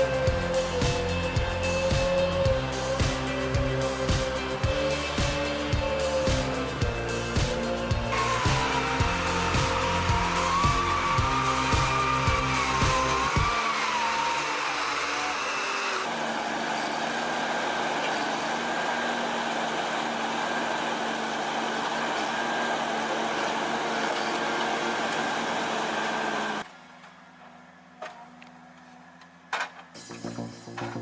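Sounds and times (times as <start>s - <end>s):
machinery running noisily: 0.0s - 31.0s.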